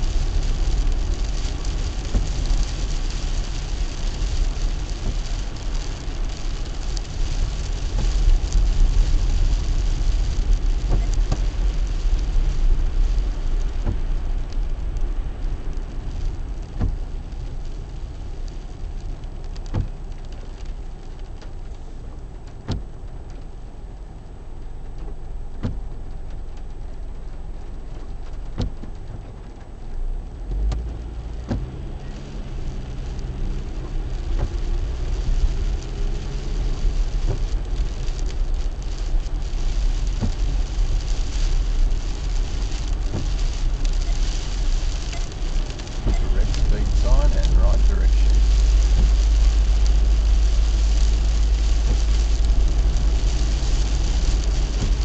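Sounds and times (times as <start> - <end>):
tyre and road noise: 0.0 - 55.0
windscreen wipers knocking: 0.0 - 55.0.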